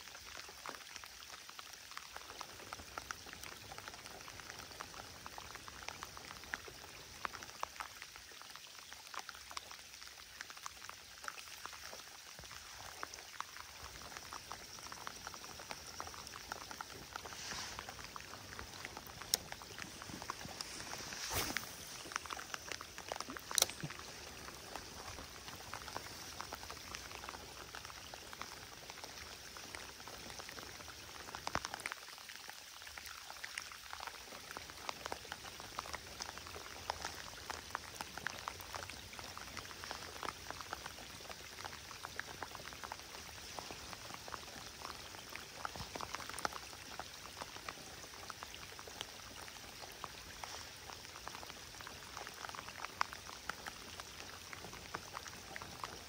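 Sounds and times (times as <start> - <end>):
rain falling on water: 0.0 - 56.0.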